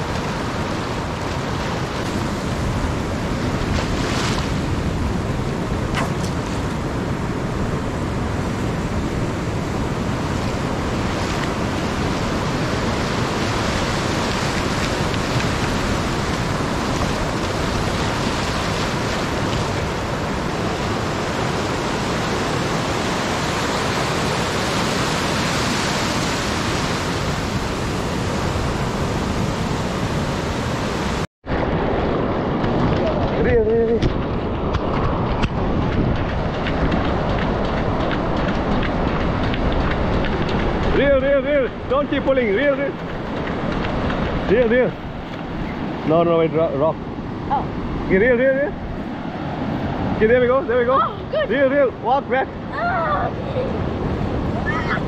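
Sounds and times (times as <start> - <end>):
ocean surf breaking on sand: 0.0 - 55.0
wind buffeting microphone: 0.0 - 55.0.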